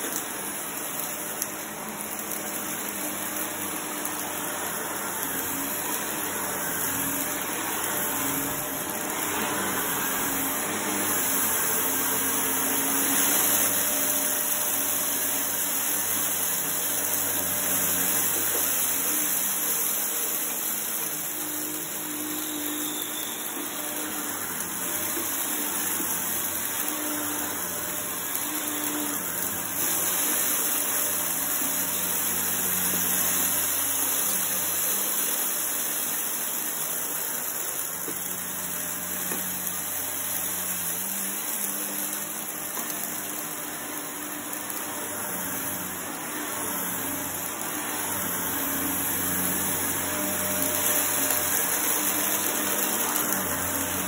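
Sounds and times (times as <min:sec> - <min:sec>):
upright vacuum cleaner on carpet: 0:00.0 - 0:54.0.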